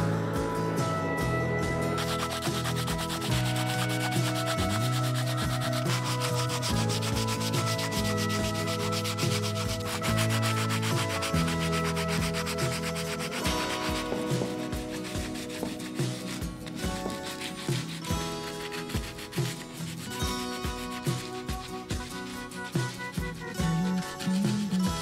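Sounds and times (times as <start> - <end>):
sandpaper rasping on wood: 2.0 - 25.0.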